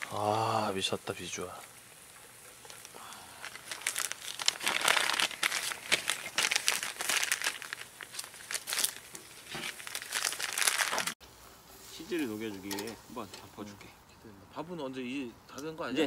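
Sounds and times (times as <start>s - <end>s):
ribs sizzling over charcoal: 0.0s - 16.0s.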